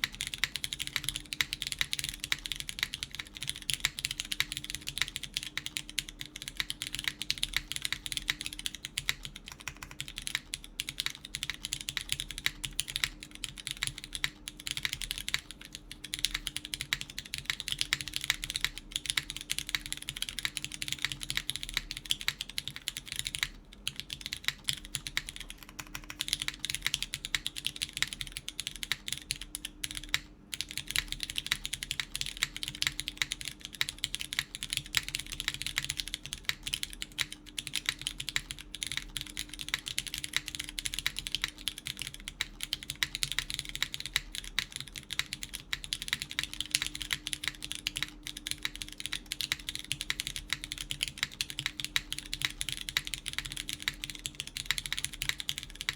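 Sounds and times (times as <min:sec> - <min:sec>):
mechanical keyboard typing: 0:00.0 - 0:55.9.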